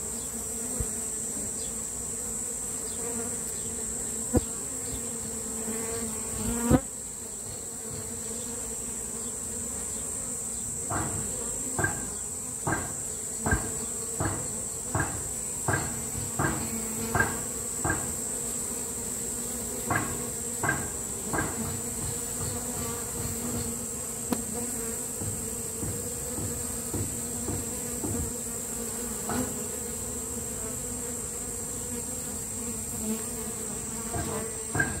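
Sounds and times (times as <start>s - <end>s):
bee swarm humming: 0.0s - 35.0s.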